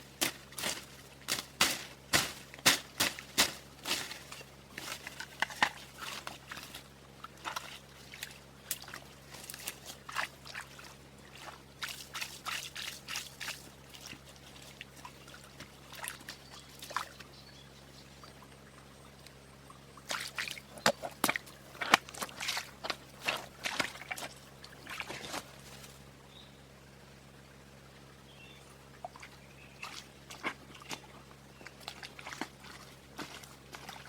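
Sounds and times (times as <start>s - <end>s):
water splashing and dripping: 0.2s - 17.3s, 20.0s - 25.5s, 29.0s - 34.0s.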